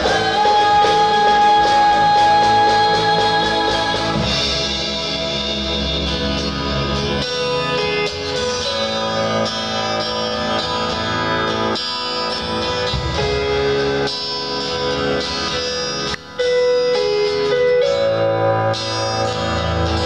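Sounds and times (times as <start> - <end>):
live rock band: 0.0 - 20.0
strummed guitars: 0.0 - 20.0.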